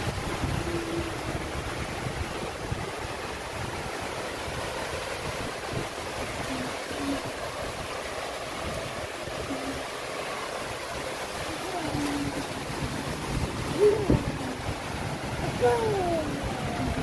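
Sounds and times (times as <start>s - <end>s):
heavy rain pouring: 0.0s - 17.0s
wind buffeting microphone: 0.0s - 17.0s.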